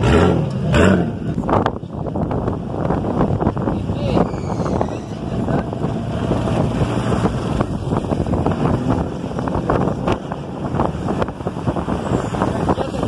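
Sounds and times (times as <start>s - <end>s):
off-road vehicle engines revving: 0.0s - 13.0s
water splashing from wheels: 0.0s - 13.0s
wind noise on microphone: 0.0s - 13.0s.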